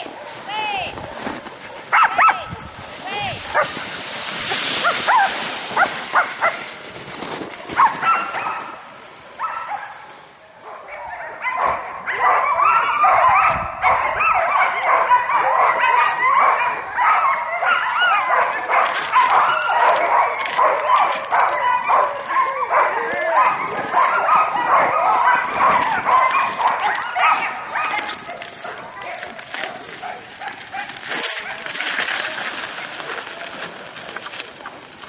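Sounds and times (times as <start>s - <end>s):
sled dogs yipping and barking: 0.0s - 35.0s.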